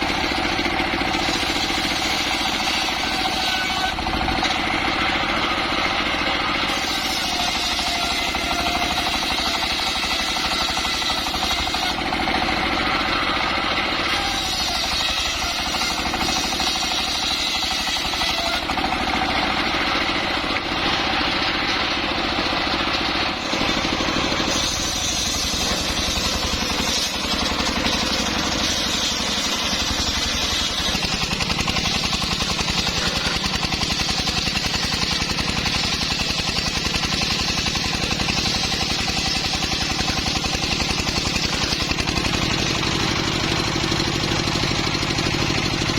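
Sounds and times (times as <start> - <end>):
circular saw running: 0.0 - 45.9
fast engine beat: 0.0 - 45.9.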